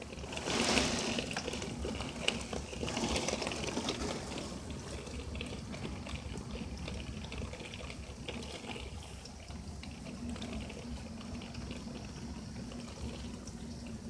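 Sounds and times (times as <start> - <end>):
heavy rain through a window: 0.0 - 14.0.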